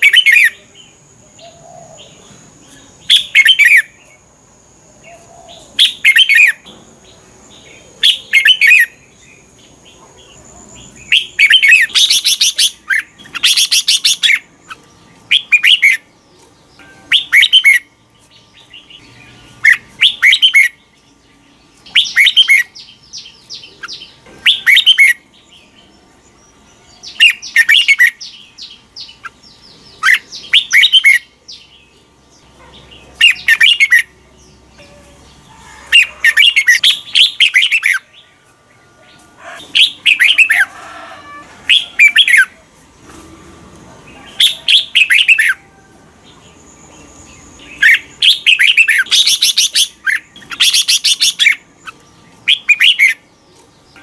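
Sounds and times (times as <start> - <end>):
bird singing: 0.0 - 43.1, 43.8 - 54.0.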